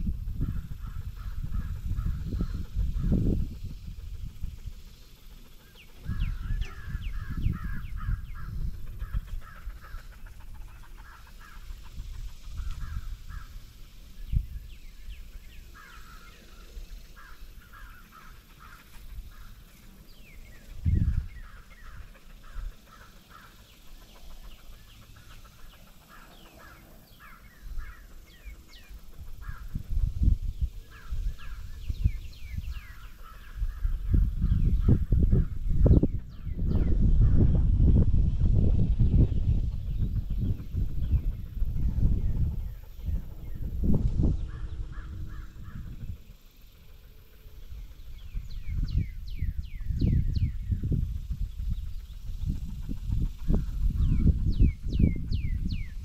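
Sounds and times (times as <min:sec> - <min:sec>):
birds calling: 0:00.0 - 0:37.7, 0:38.6 - 0:56.0
wind rumbling on microphone: 0:00.0 - 0:56.0.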